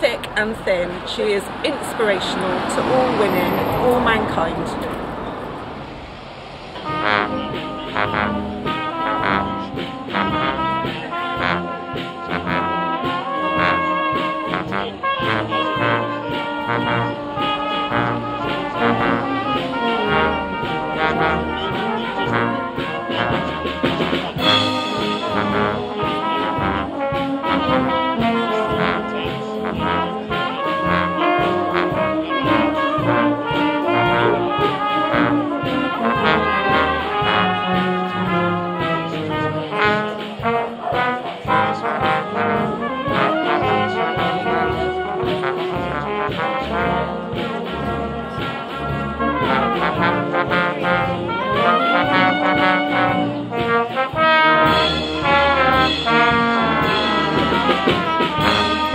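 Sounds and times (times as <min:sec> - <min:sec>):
brass band playing: 0:00.0 - 0:58.9.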